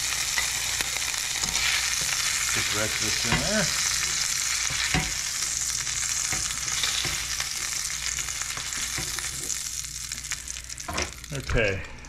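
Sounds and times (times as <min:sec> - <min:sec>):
omelet sizzling in a frying pan: 0:00.0 - 0:11.8.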